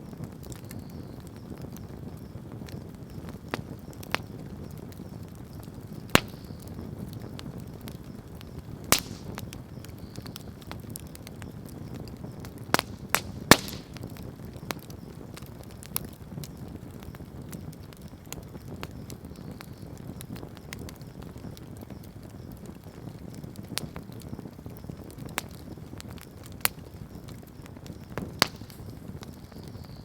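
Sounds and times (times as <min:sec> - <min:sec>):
fire crackles and pops: 0:00.0 - 0:30.0
low rumble of flame: 0:00.0 - 0:30.0.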